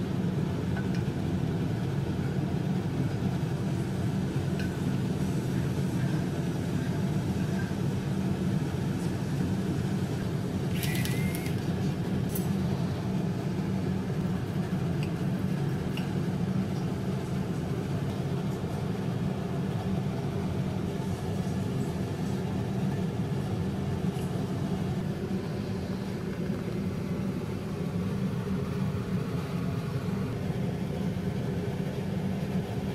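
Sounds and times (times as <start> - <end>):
low machine hum: 0.0 - 32.9.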